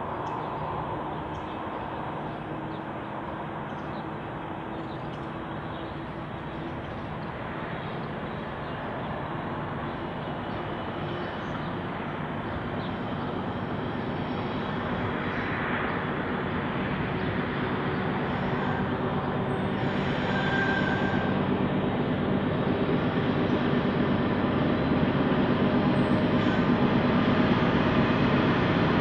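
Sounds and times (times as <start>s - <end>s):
locomotive engines running: 0.0s - 29.0s.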